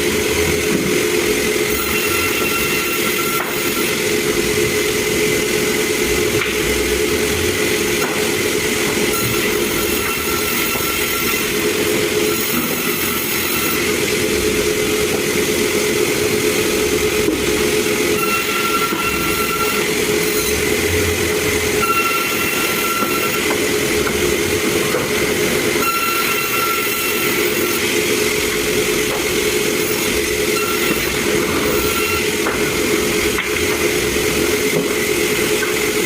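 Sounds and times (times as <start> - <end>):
high machine whine: 0.0 - 36.0
sawmill machinery running: 0.0 - 36.0.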